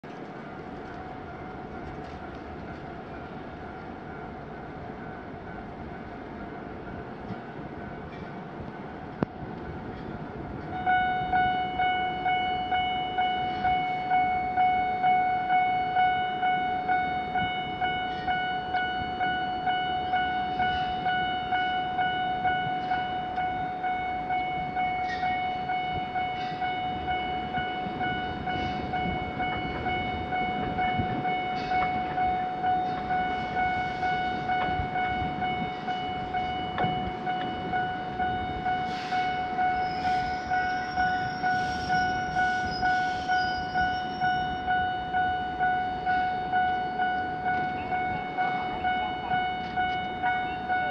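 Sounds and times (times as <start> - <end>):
level crossing warning alarm: 0.1 - 50.9.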